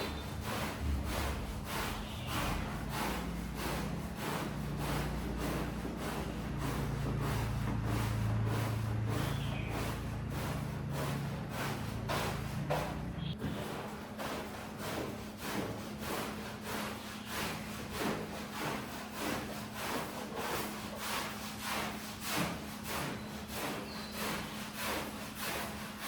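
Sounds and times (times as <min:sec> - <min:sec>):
low machine hum: 0:00.0 - 0:26.0
scrubbing strokes on wet rug: 0:00.0 - 0:26.0.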